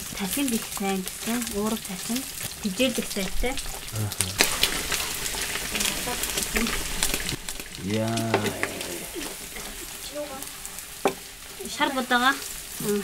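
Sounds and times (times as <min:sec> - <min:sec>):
fat sizzling in a pan: 0:00.0 - 0:13.0.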